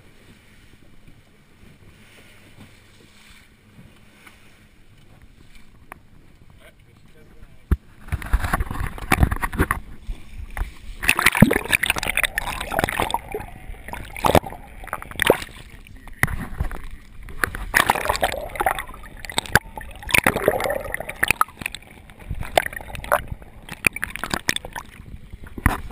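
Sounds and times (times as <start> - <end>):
water gurgling and sloshing: 0.0 - 25.9.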